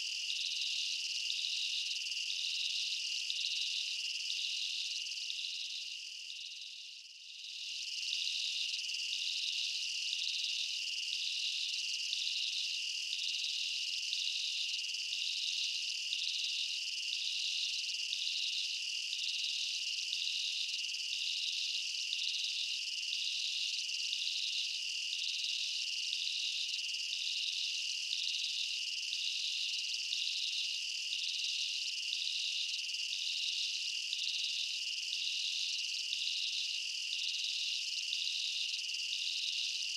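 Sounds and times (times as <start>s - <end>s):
insect chorus: 0.0s - 39.9s
pulsing insect chirr: 0.3s - 6.7s, 7.4s - 39.9s.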